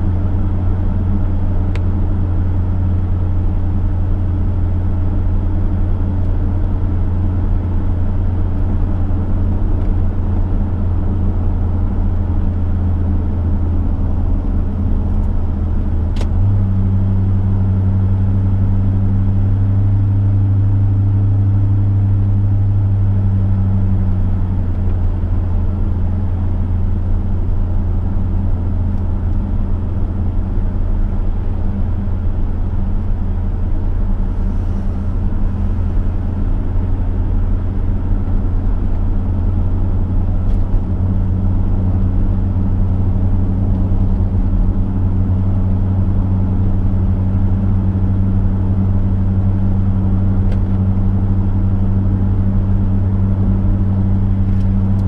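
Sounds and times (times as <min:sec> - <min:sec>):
car engine droning: 0:00.0 - 0:55.0
road and tyre noise: 0:00.0 - 0:55.0.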